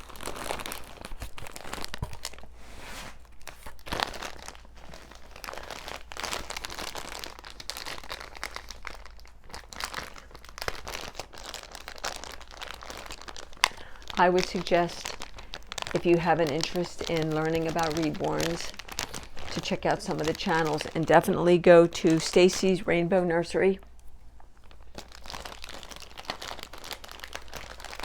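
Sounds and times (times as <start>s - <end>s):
packaging tearing: 0.0s - 21.4s, 24.6s - 28.0s
packaging crinkling and rustling: 0.0s - 28.0s.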